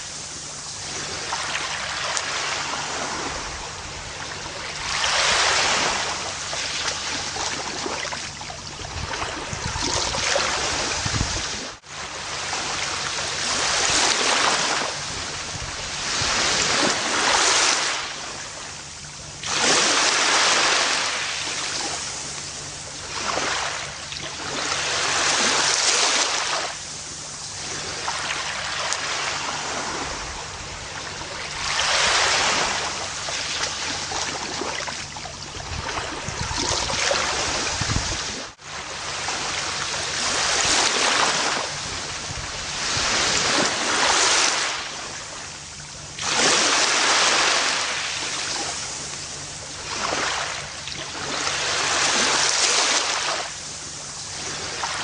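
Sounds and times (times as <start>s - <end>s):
ocean surf on a beach: 0.0s - 55.0s.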